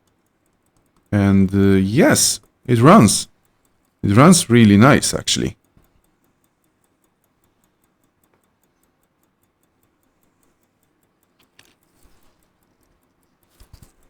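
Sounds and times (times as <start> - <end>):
pocket watch ticking: 0.0 - 13.6.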